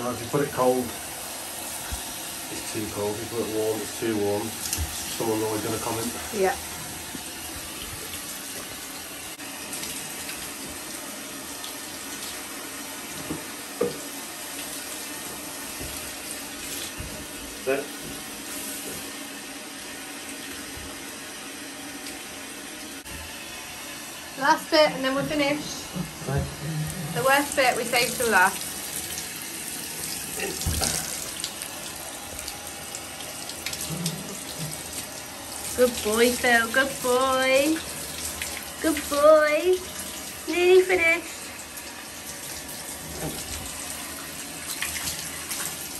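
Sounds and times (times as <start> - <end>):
shower head spraying water: 0.0 - 45.9.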